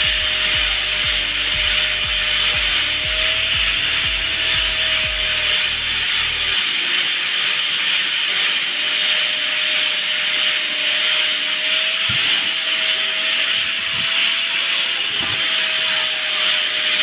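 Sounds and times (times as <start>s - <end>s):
angle grinder grinding: 0.0s - 17.0s.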